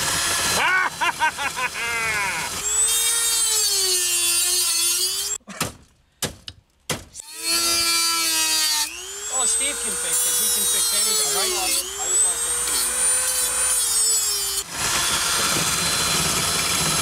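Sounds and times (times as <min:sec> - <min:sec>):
electric grinder cutting metal: 0:00.0 - 0:05.4, 0:07.2 - 0:17.0.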